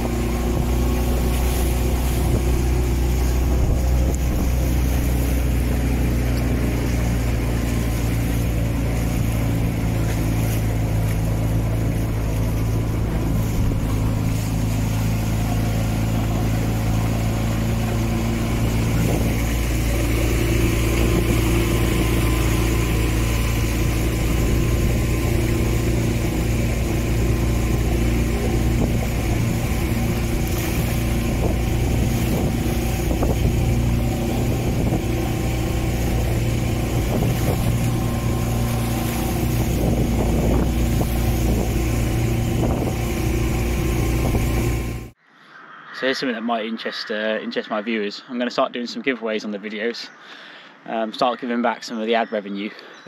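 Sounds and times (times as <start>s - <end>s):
outboard motor droning: 0.0s - 45.2s
water rushing around hull: 0.0s - 53.0s
wind: 0.0s - 53.0s.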